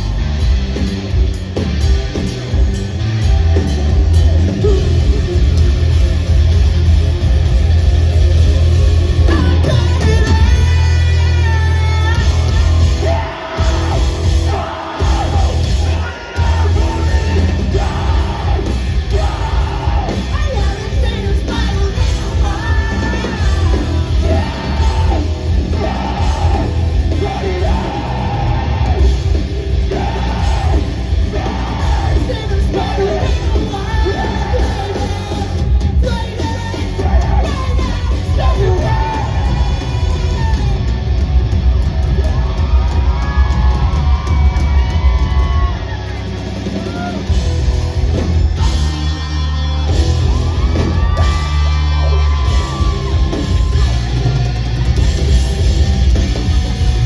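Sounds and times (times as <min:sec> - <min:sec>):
live rock band playing: 0:00.0 - 0:57.0
yelled and sung vocals: 0:03.1 - 0:41.3, 0:42.2 - 0:57.0.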